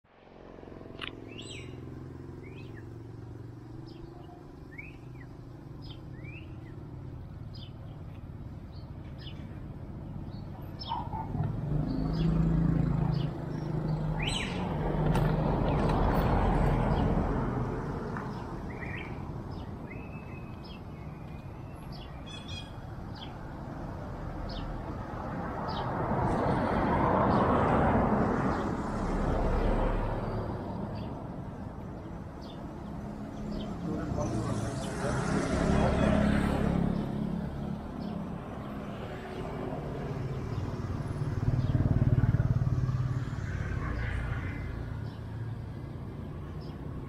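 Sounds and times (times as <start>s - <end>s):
motor vehicle passing: 0.1s - 47.0s
small birds chirping: 0.8s - 26.6s, 30.2s - 47.0s.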